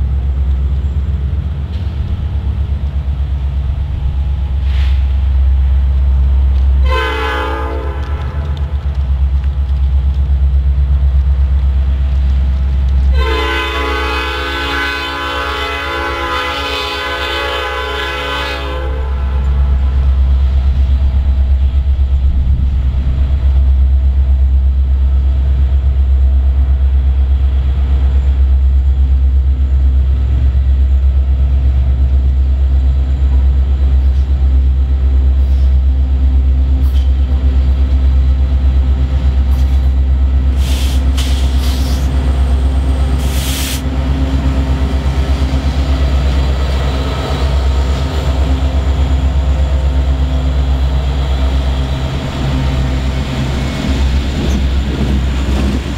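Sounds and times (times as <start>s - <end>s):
freight train passing: 0.0s - 55.9s.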